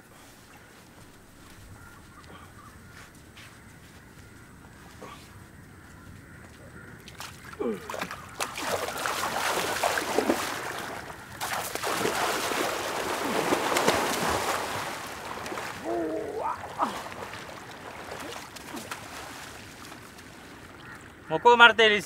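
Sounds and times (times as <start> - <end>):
feet wading through shallow water: 0.0 - 21.3.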